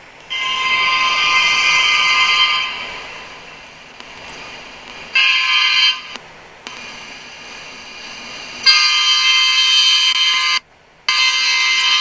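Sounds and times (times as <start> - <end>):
locomotive air horn blast: 0.3 - 3.5, 5.1 - 12.0.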